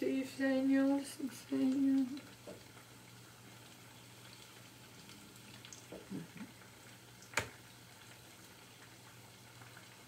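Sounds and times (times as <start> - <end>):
frying oil sizzling: 0.0 - 10.0.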